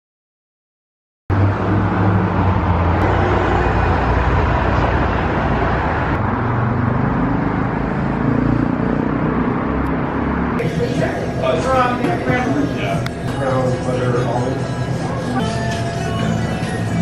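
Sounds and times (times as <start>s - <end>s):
road traffic rumble: 1.3s - 17.0s.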